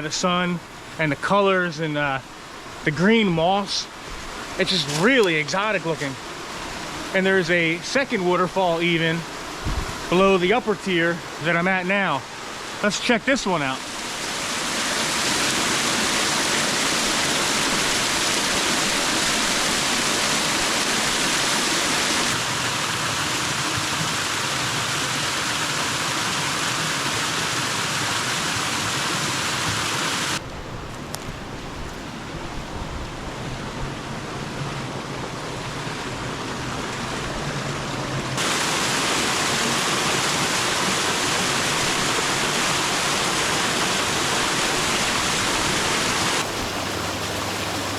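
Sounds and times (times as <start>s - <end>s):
small waterfall over rocks: 0.2s - 30.4s, 34.0s - 47.9s.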